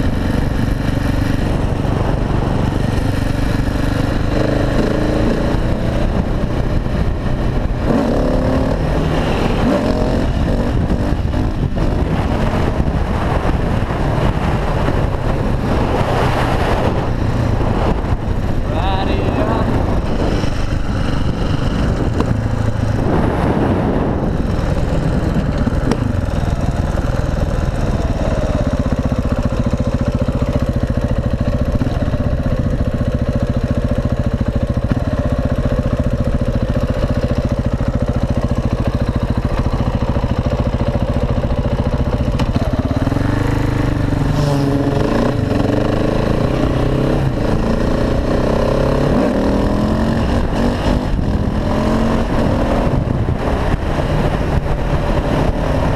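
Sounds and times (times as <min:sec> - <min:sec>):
motorcycle engine running: 0:00.0 - 0:55.9
wind noise: 0:00.0 - 0:55.9.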